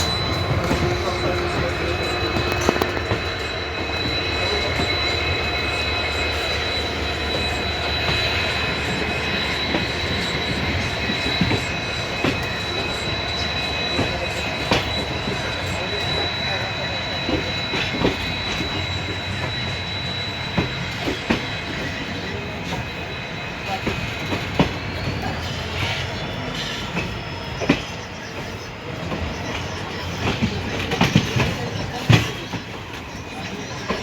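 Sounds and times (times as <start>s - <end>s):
train rolling rumble: 0.0s - 34.0s.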